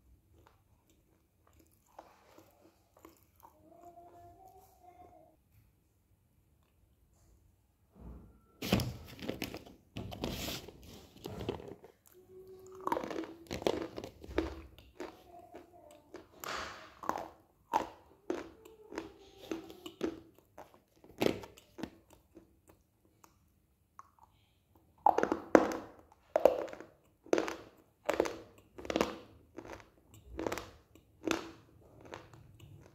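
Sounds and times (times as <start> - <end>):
crunching and chewing: 0.0 - 4.7, 10.3 - 32.9.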